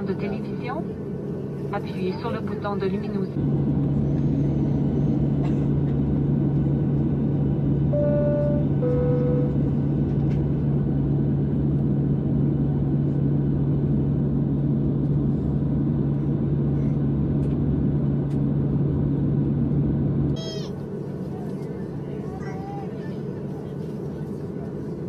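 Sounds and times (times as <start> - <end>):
airliner cabin drone: 0.0 - 25.0.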